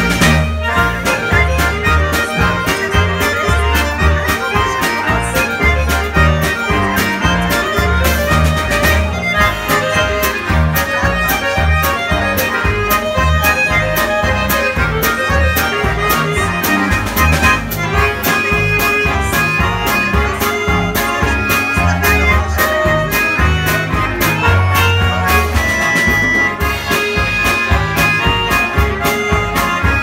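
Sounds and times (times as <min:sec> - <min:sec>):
accordions playing folk dance tune: 0:00.0 - 0:30.0
steady drum beat: 0:00.0 - 0:30.0.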